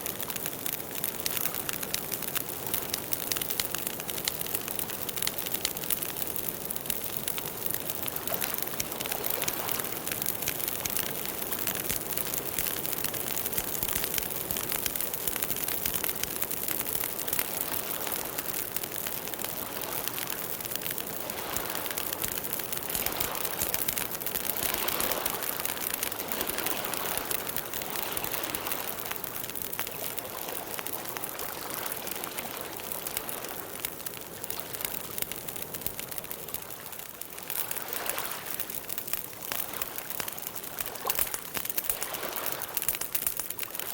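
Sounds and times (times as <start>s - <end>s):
campfire wood crackling: 0.0s - 43.9s.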